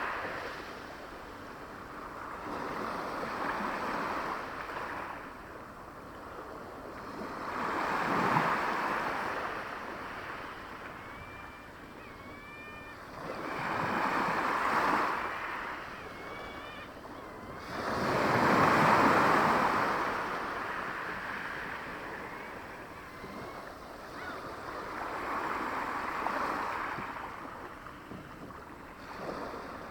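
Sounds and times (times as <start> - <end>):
small waves washing onto shore: 0.0 - 29.9.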